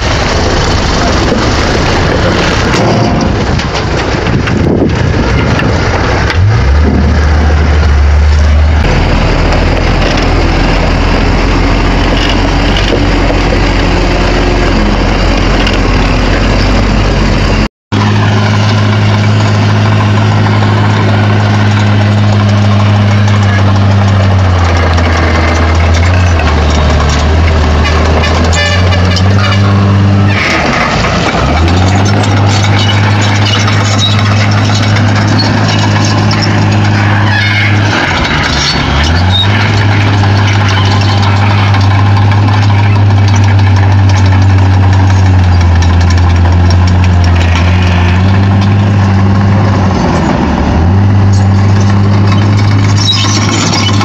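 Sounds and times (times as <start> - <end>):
bulldozer diesel engine running: 0.0 - 54.0
mechanical clatter: 7.8 - 49.4, 51.2 - 54.0.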